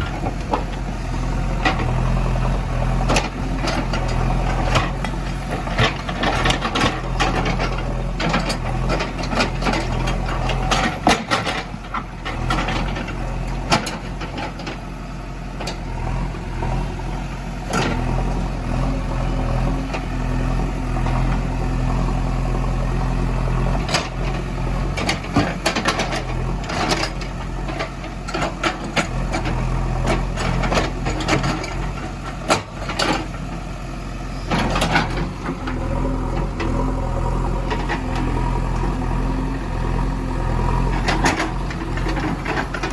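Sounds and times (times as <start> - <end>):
diesel engine idling: 0.0 - 42.9.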